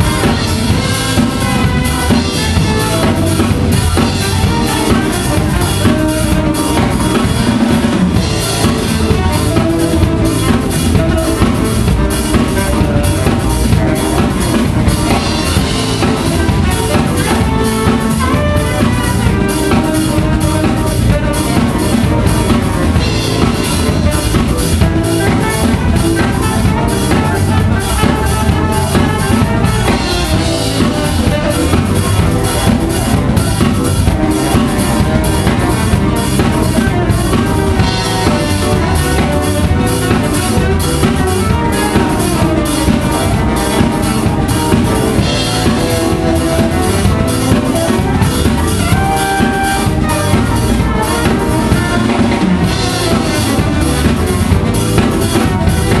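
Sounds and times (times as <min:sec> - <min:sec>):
drum kit beat: 0:00.0 - 0:56.0
keyboards: 0:00.0 - 0:56.0
live band playing: 0:00.0 - 0:56.0
saxophone: 0:00.0 - 0:56.0.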